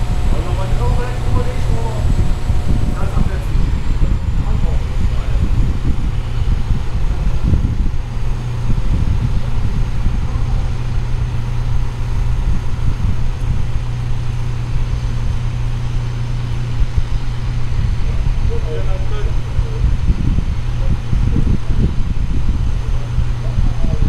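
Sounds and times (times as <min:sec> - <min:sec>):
diesel engine drone: 0:00.0 - 0:24.0.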